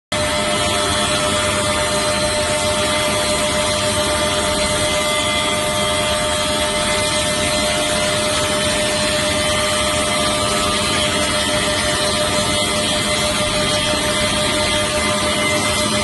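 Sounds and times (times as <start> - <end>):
rip saw whining: 0.2 - 16.0.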